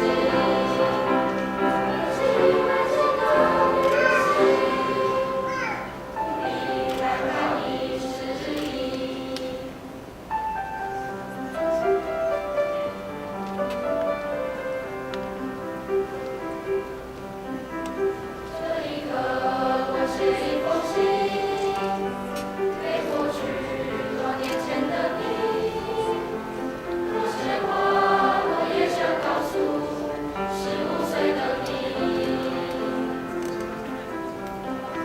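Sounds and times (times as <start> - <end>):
choir singing in harmony: 0.0 - 14.9, 18.0 - 35.0
piano accompaniment: 0.0 - 35.0.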